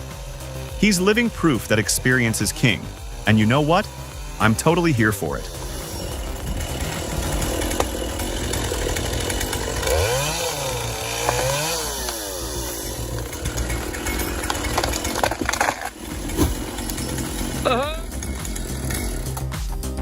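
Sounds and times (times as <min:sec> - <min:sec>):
chainsaw running: 0:00.0 - 0:20.0.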